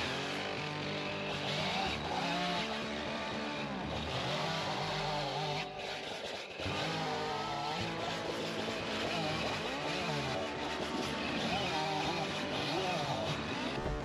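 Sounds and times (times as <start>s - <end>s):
chainsaw revving and cutting wood: 0.0s - 14.0s.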